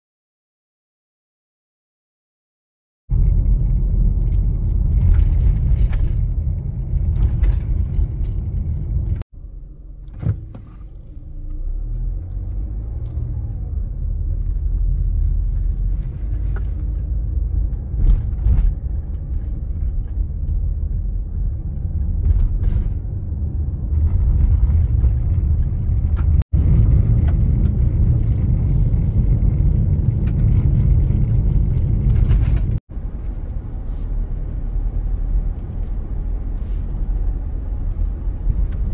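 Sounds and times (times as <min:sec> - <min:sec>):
tyre and engine rumble: 0:03.1 - 0:38.9.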